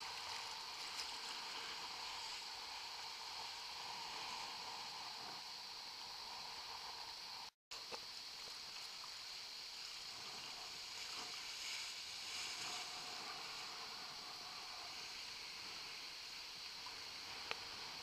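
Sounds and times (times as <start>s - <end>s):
choppy water: 0.0s - 18.0s.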